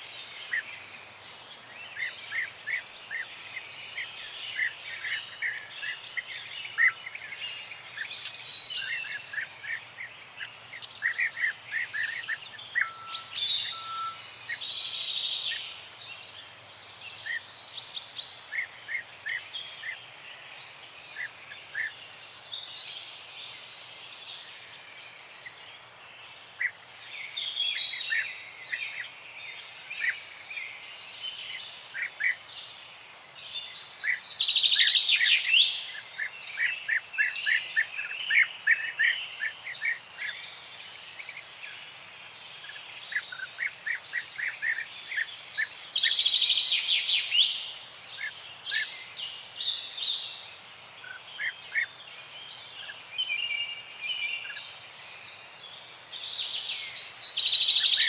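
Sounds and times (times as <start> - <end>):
faint outdoor hiss: 0.0 - 58.0
songbirds chirping and singing: 0.0 - 58.0.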